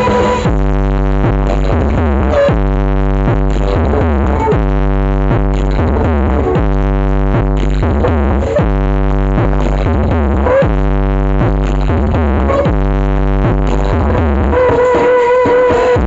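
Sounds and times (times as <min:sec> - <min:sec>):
electronic dance music: 0:00.0 - 0:16.0.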